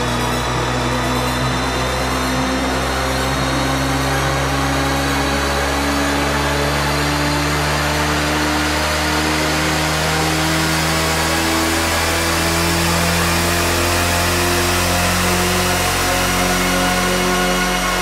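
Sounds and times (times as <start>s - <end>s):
synthesizer drone: 0.0s - 18.0s.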